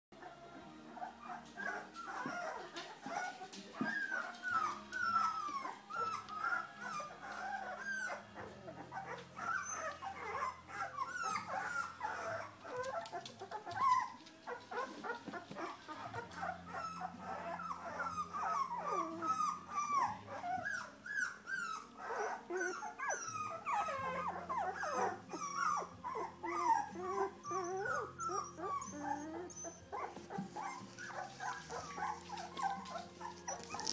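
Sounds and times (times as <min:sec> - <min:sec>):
puppies whimpering and squealing: 0:00.2 - 0:33.9.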